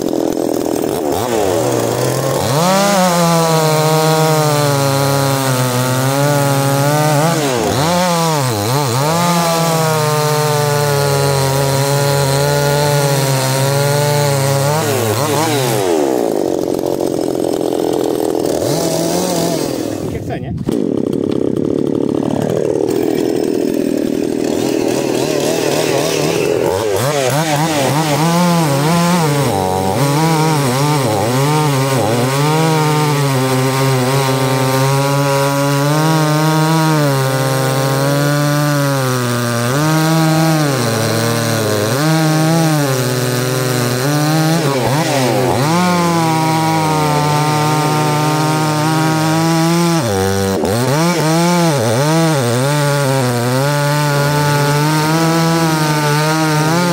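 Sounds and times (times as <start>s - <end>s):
chainsaw cutting through wood: 0.0s - 56.9s.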